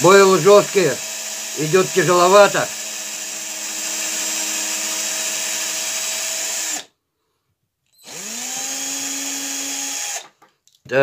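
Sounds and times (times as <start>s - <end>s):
cordless drill boring: 0.0s - 6.9s, 8.0s - 10.4s.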